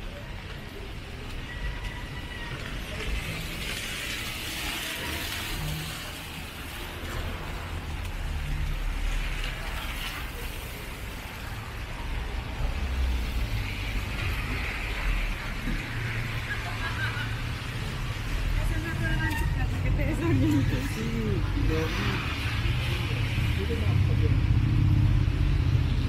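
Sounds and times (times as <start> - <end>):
rain hissing on wet street: 0.0 - 26.0
traffic rumble: 0.0 - 26.0.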